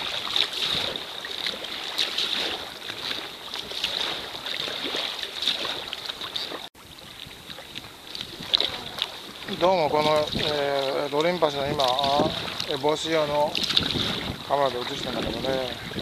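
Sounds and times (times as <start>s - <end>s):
wind on microphone: 0.0s - 3.3s, 6.4s - 16.0s
water splashing against kayak hull: 0.0s - 16.0s.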